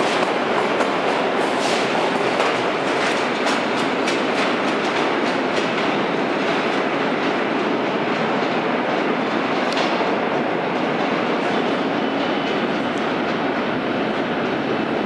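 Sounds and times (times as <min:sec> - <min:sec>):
wheels clacking over rail joints: 0:00.0 - 0:12.6
subway train rumble: 0:00.0 - 0:15.0.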